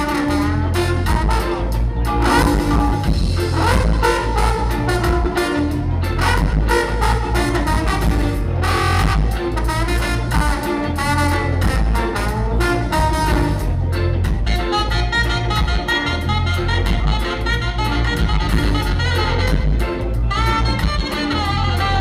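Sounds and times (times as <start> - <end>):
drums: 0.0 - 22.0
electric guitar: 0.0 - 22.0
heavy bass: 0.0 - 22.0
keyboard: 0.0 - 22.0
saxophones and trombone melody: 0.0 - 22.0.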